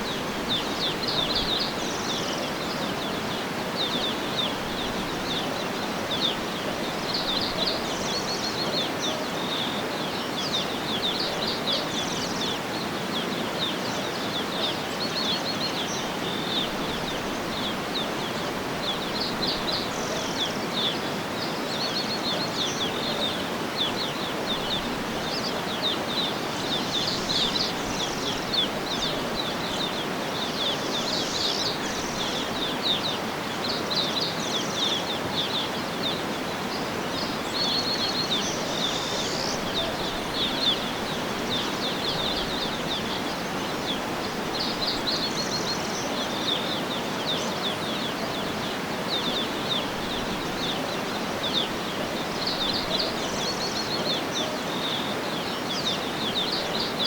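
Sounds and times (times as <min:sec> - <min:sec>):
small birds chirping and trilling: 0:00.0 - 0:57.0
steady background hiss: 0:00.0 - 0:57.0.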